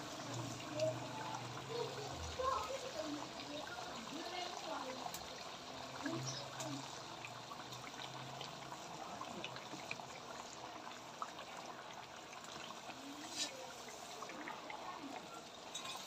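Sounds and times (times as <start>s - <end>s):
chicken sizzling in a pot: 0.0s - 16.0s.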